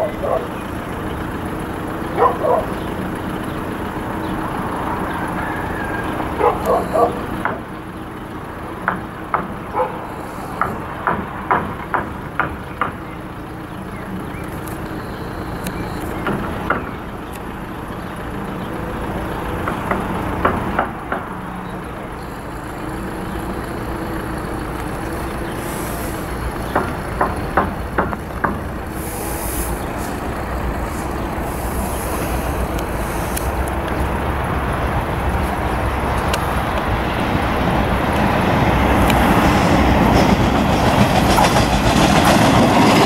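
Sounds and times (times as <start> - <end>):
diesel train droning: 0.0 - 43.0.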